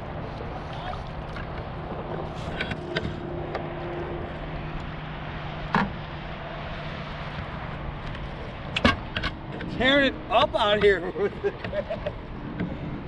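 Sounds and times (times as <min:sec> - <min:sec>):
wind and water noise: 0:00.0 - 0:13.0.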